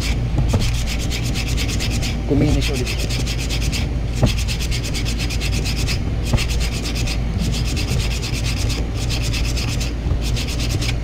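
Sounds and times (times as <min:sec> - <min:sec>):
sandpaper rasping on metal: 0:00.0 - 0:11.0.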